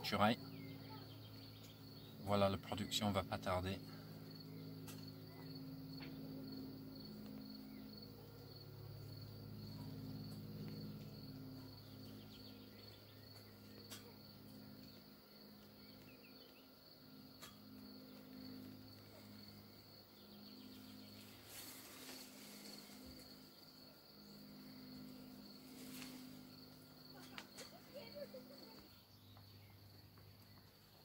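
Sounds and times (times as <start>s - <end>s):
low hum: 0.0s - 31.0s
high-pitched insect trill: 0.2s - 31.0s.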